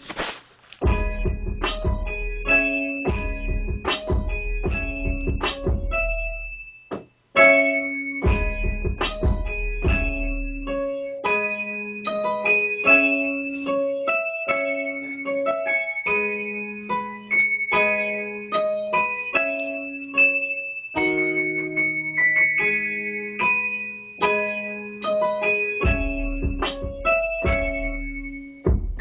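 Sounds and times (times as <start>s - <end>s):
high melody: 0.8s - 29.0s
keyboard piano chords: 0.8s - 29.0s.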